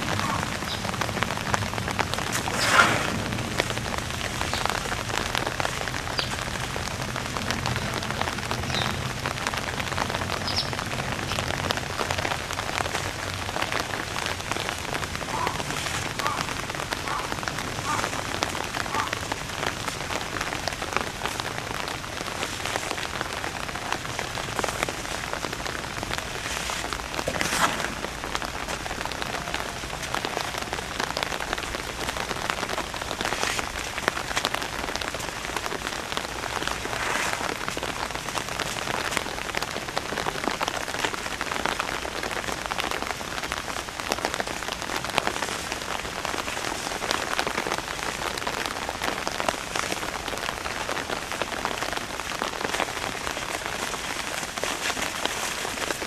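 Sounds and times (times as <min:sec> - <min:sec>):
rain pattering: 0:00.0 - 0:56.0
sharp crackle: 0:00.0 - 0:56.0.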